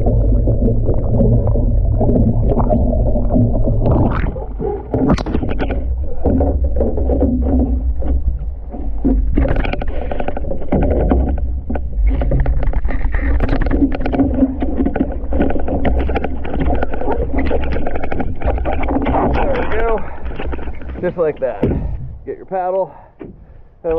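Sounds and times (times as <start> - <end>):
low rumble: 0.0 - 22.3
water splashing against canoe: 0.0 - 22.4.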